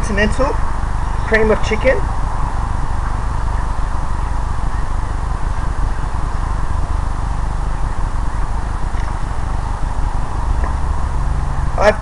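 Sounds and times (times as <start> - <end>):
constant hiss: 0.0 - 12.0
low rumbling: 0.0 - 12.0.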